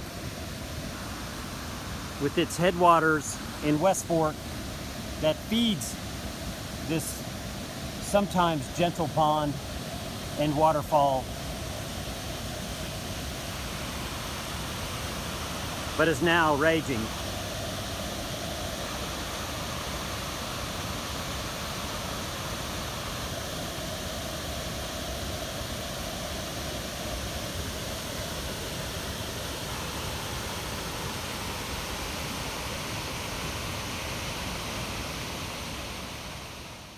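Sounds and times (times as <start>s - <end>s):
floodwater rushing over waterfall: 0.0s - 36.9s.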